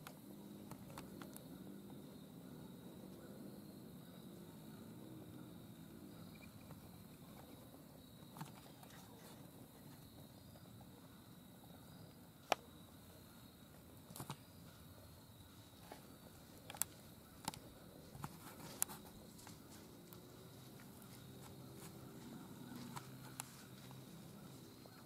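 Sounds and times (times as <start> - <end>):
faint high insect tone: 0.0 - 25.0.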